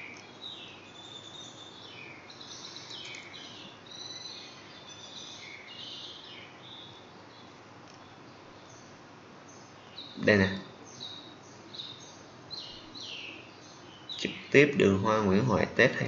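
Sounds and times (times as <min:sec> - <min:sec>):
birds chirping faintly: 0:00.0 - 0:16.0
low hiss of room noise: 0:00.0 - 0:16.0.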